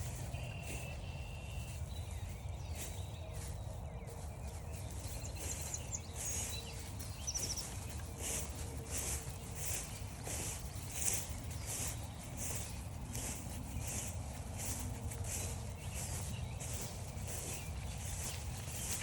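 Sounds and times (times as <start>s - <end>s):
footsteps crunching through frosty grass: 0.0s - 19.0s
small birds calling: 0.0s - 19.0s.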